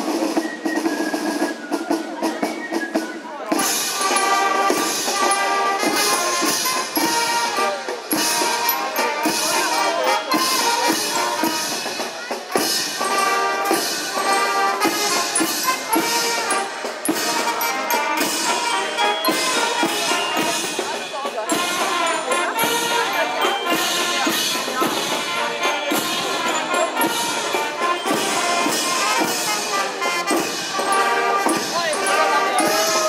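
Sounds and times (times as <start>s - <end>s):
bass drum and snare drums: 0.0s - 33.0s
brass band playing: 3.4s - 33.0s.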